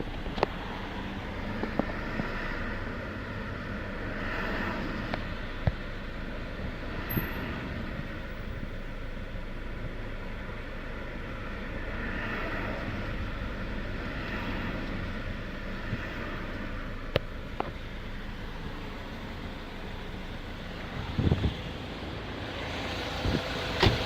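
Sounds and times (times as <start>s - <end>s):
diesel engine idling rough: 0.0s - 24.0s.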